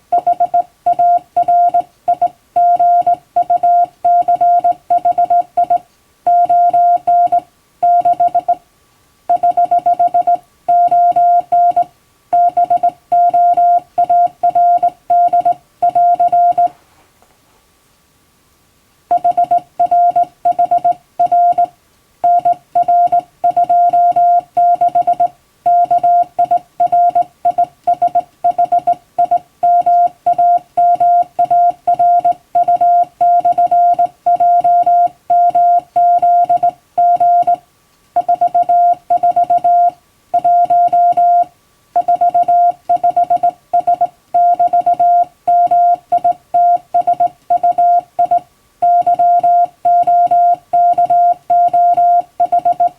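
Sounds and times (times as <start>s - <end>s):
morse code tone: 0.1s - 8.6s, 9.3s - 16.7s, 19.1s - 37.6s, 38.2s - 52.9s.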